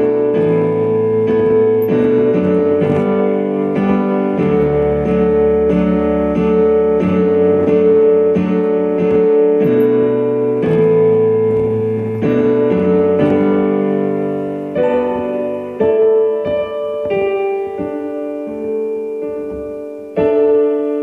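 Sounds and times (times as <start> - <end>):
piano playing sustained chords: 0.0 - 21.0.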